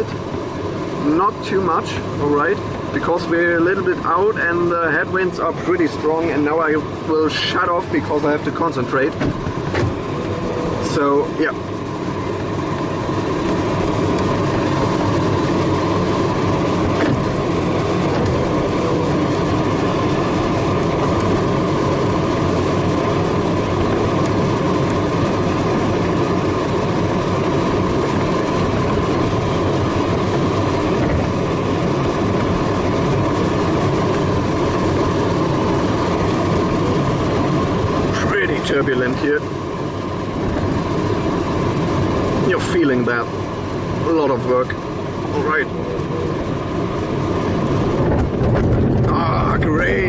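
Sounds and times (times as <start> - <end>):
deep rumble: 0.0 - 50.0
rushing airflow in cockpit: 0.0 - 50.0.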